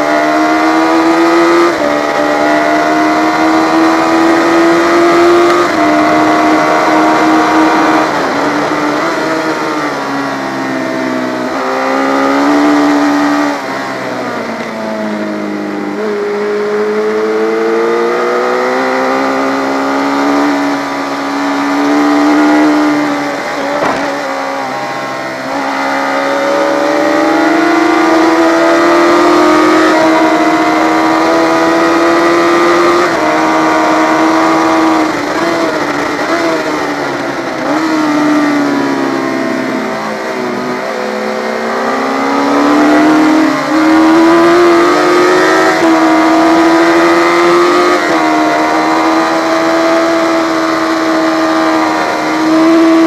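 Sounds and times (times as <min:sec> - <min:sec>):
race motorcycle engine: 0:00.0 - 0:53.0.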